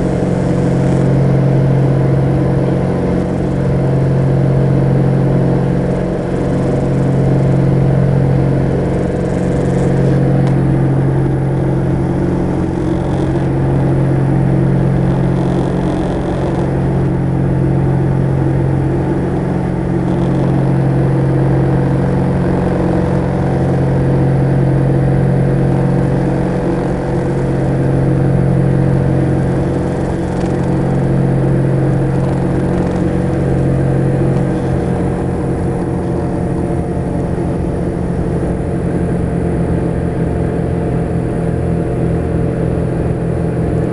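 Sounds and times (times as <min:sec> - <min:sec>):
propeller engines droning: 0:00.0 - 0:43.9.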